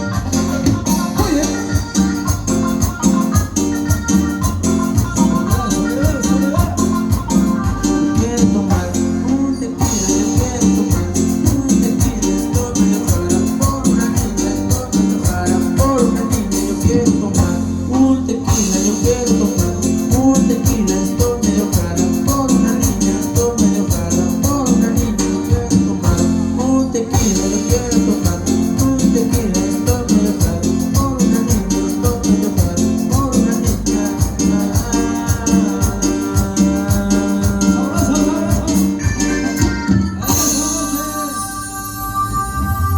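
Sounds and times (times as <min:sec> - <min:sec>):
shaker percussion: 0:00.0 - 0:09.0, 0:09.8 - 0:17.6, 0:18.5 - 0:26.3, 0:27.2 - 0:42.9
cumbia dance music: 0:00.0 - 0:42.9.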